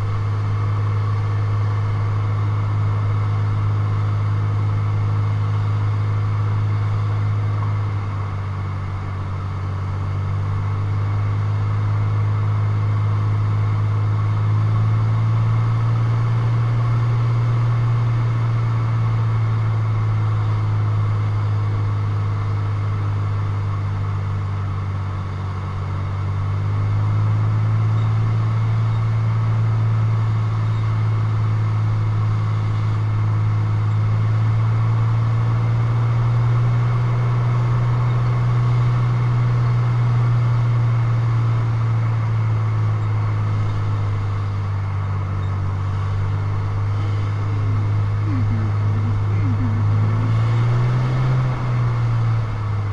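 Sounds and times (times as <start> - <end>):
light aircraft engine droning: 0.0 - 52.9.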